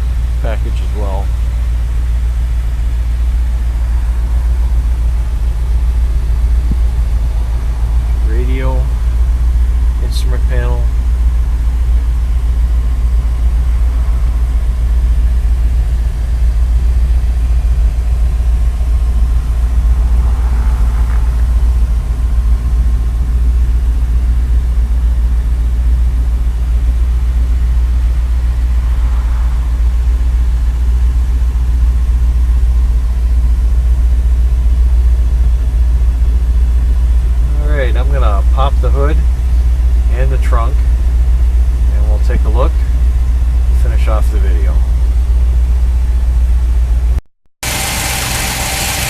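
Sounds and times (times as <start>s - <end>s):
engine idling: 0.0s - 49.0s.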